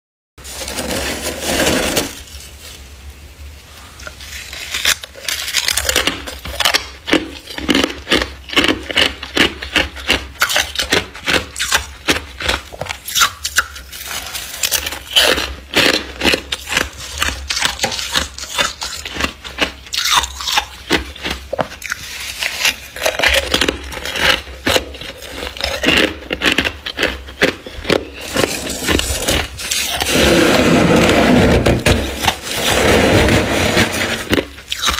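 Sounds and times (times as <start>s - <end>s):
frost being scraped and crunched: 0.4s - 2.9s, 3.8s - 34.9s.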